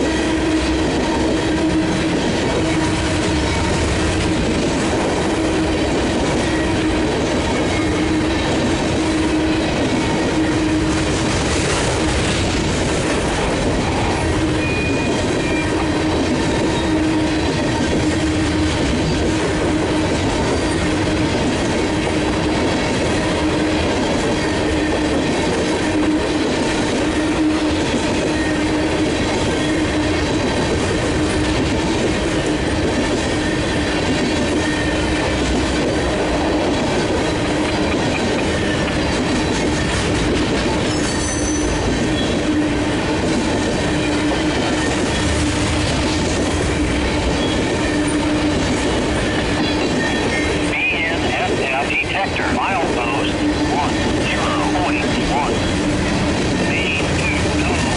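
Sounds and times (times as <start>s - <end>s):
train cars rumbling and clattering: 0.0s - 57.9s.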